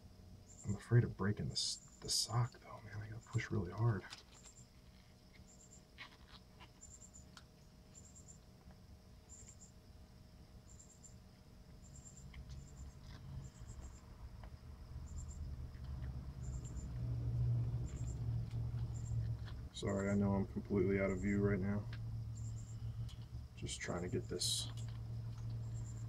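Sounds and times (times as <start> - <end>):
faint insect-like chirping: 0.0 - 26.0.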